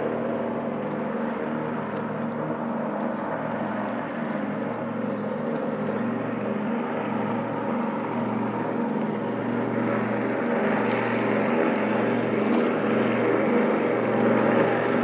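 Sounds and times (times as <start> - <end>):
propeller aircraft engines drone: 0.0 - 15.0.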